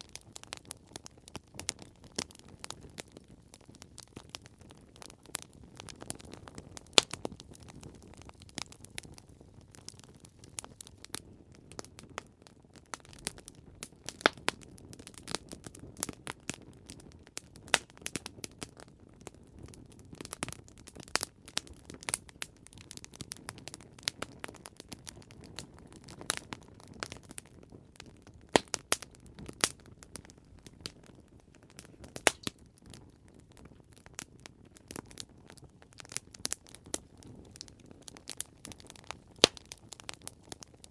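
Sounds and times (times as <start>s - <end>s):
burning wood popping: 0.0s - 40.9s
campfire crackling: 0.0s - 40.9s.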